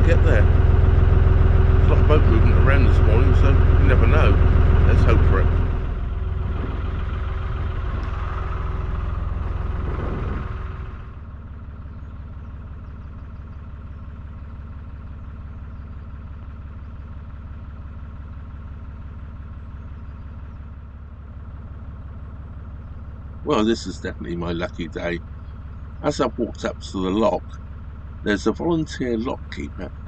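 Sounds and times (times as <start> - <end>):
boat diesel engine running: 0.0 - 30.0.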